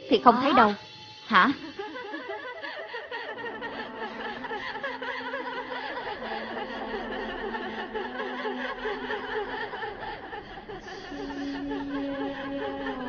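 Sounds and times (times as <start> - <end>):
steady low hum: 0.0 - 13.0
chorus of chuckling laughs: 1.6 - 13.0.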